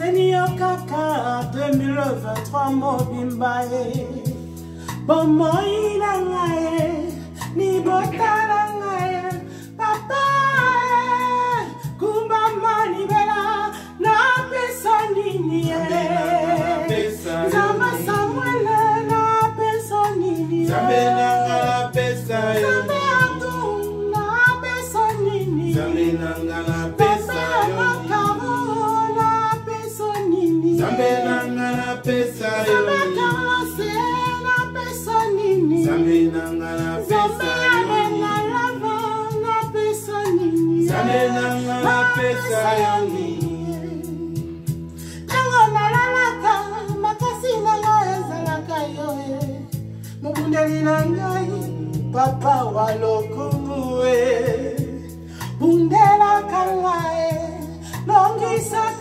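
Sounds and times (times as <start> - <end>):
backing music with steady beat: 0.0 - 59.0
woman singing: 0.0 - 59.0.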